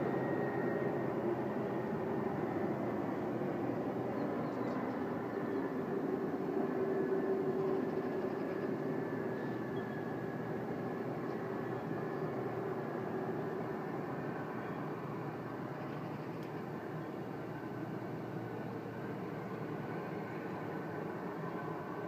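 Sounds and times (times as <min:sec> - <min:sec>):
distant jet engine drone: 0:00.0 - 0:22.0.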